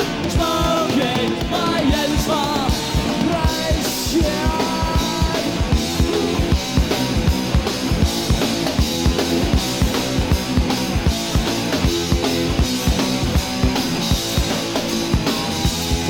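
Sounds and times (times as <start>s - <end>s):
driving drum beat: 0.0s - 16.0s
punk rock band playing: 0.0s - 16.0s.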